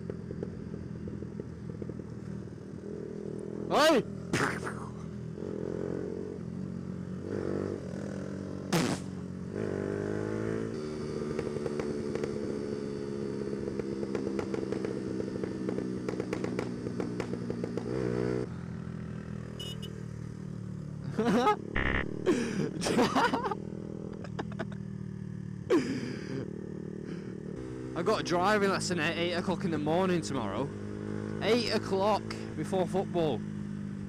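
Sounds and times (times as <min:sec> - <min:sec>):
motorcycle engine running: 0:00.0 - 0:04.3, 0:05.0 - 0:34.0.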